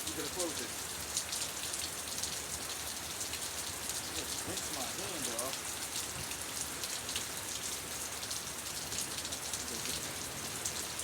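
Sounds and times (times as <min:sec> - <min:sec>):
rain pattering on surfaces: 0:00.0 - 0:11.0.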